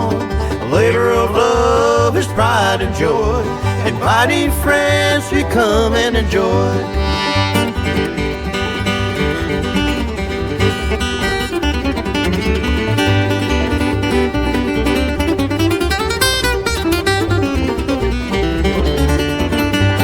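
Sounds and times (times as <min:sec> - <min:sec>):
country music with acoustic guitar: 0:00.0 - 0:07.0, 0:07.6 - 0:20.0.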